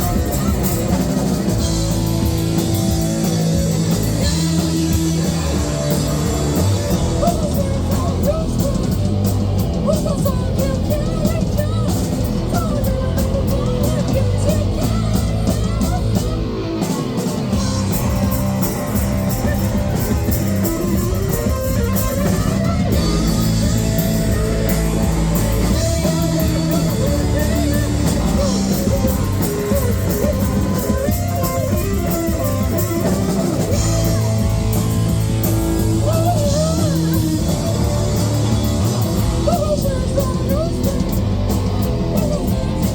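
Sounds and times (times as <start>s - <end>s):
drum kit: 0.0s - 42.9s
guitar: 0.0s - 42.9s
person singing: 0.0s - 42.9s.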